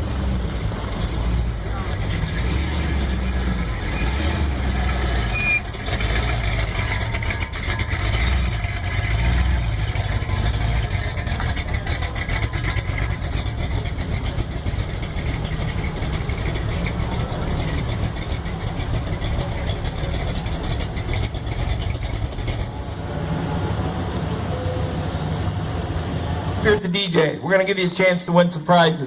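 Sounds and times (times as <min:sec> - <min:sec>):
car engines idling: 0:00.0 - 0:29.0.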